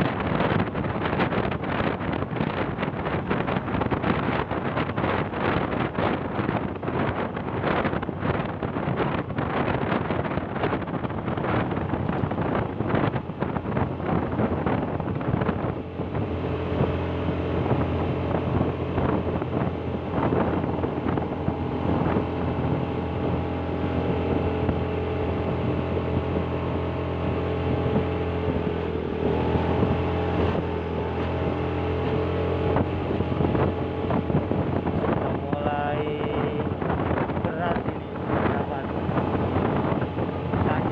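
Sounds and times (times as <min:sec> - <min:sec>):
vehicle engine hum: 0:00.0 - 0:40.9
wind buffeting microphone: 0:00.0 - 0:40.9.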